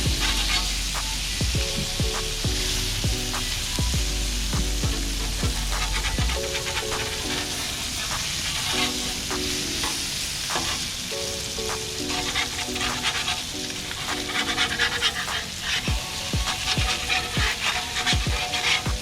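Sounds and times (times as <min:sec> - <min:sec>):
background music melody: 0:00.0 - 0:19.0
food sizzling on a griddle: 0:00.0 - 0:19.0.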